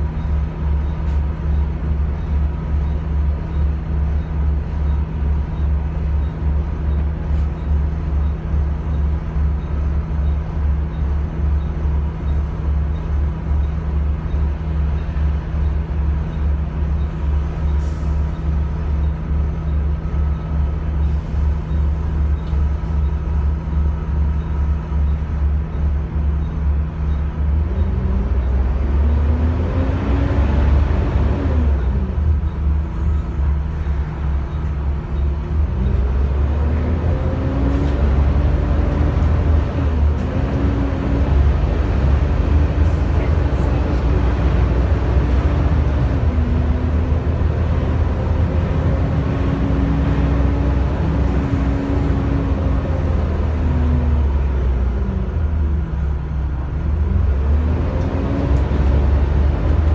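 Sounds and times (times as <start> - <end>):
bus diesel engine idling: 0.0 - 59.9.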